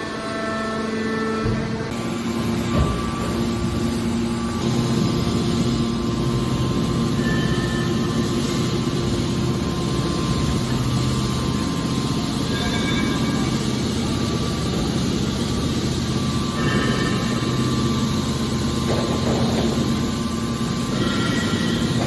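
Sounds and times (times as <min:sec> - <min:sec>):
industrial machinery hum: 0:00.0 - 0:22.0.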